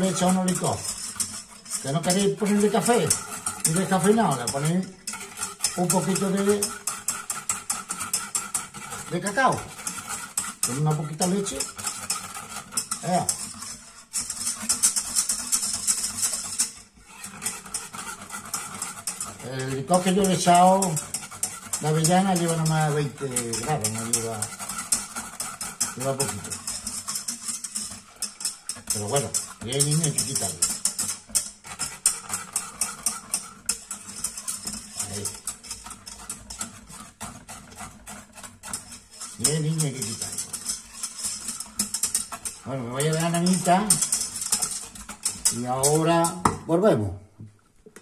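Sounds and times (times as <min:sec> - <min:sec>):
utensil scraping saucepan: 0:00.0 - 0:47.3.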